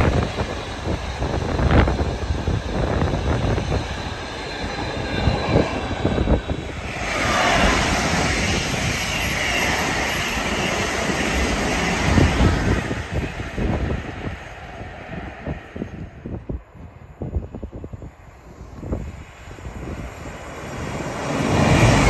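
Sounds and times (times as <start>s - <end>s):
freight train rumbling: 0.0s - 22.0s
high-speed train rushing past: 0.0s - 22.0s
wind buffeting microphone: 0.0s - 22.0s.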